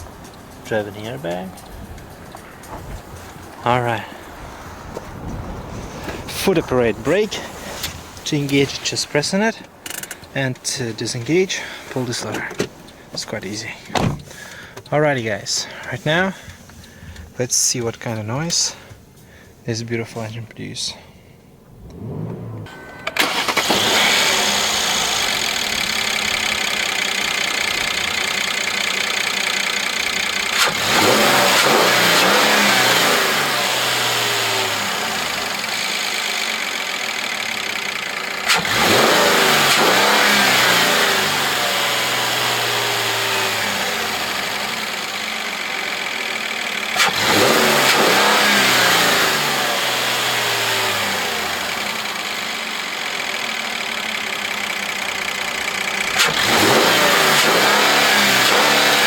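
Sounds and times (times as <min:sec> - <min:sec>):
car engine revving: 0:00.0 - 0:14.5, 0:21.6 - 0:59.0.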